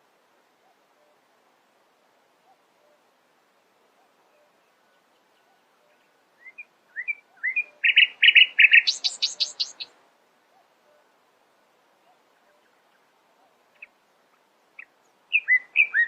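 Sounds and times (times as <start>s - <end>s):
songbird singing: 0.5s - 1.4s, 2.3s - 16.0s.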